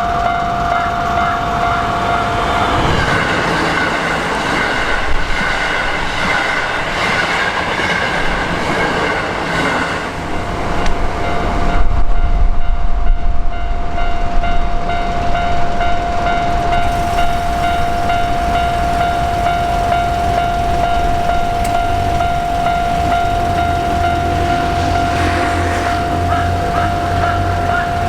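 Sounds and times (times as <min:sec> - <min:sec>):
crossing warning bell ringing: 0:00.0 - 0:08.4, 0:09.2 - 0:28.0
train wheels clattering: 0:00.0 - 0:12.2, 0:14.3 - 0:28.0.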